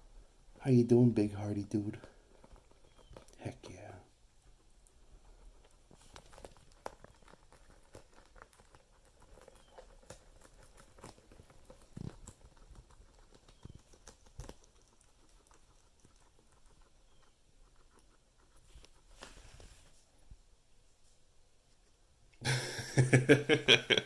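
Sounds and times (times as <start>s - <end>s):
guinea pigs clicking and rustling: 0.0s - 20.9s.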